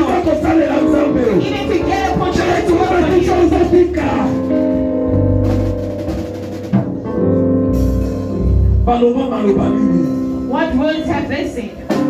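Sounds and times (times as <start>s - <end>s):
deep bass notes: 0.0s - 10.6s
held chords: 0.0s - 12.0s.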